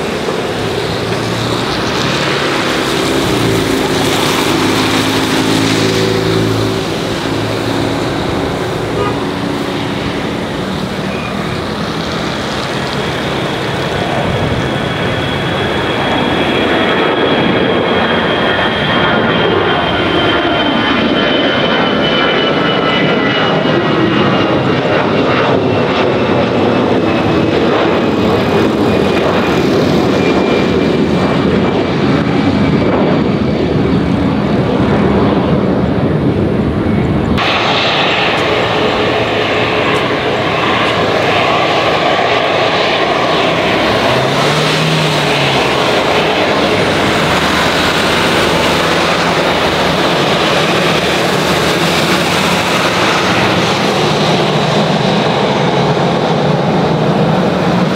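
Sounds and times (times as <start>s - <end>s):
high engine whine: 0.0s - 57.9s
jet engines running: 0.0s - 57.9s.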